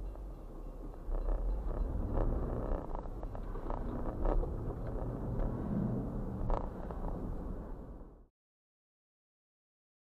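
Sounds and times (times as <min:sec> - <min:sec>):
road and engine rumble: 0:00.0 - 0:08.3.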